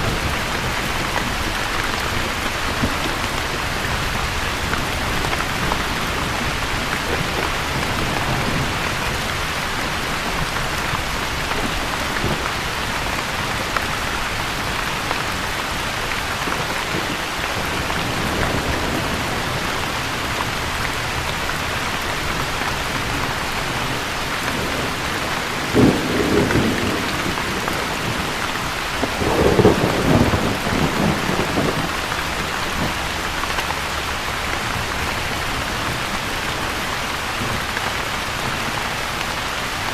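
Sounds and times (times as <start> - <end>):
thunder rumbling: 0.0 - 39.1
steady rainfall: 0.0 - 39.9.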